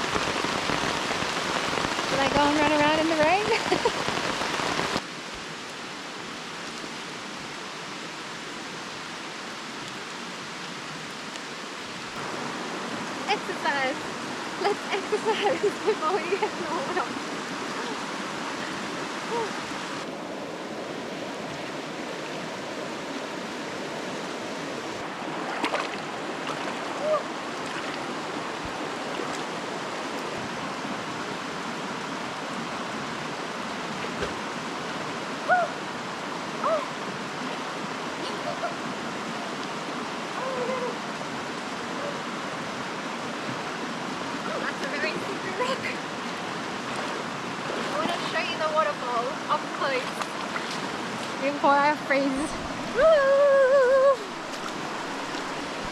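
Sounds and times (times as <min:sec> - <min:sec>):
running water rushing: 0:00.0 - 0:55.9.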